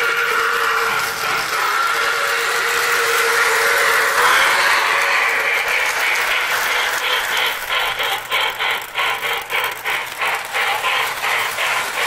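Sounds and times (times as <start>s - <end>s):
electronic chugging: 0.0s - 12.0s
toy locomotive steam hiss: 0.0s - 12.0s.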